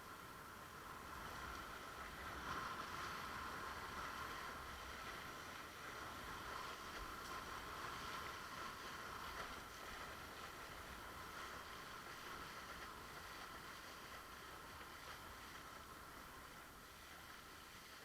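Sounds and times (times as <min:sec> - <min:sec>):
water rushing along board hull: 0:00.0 - 0:18.0.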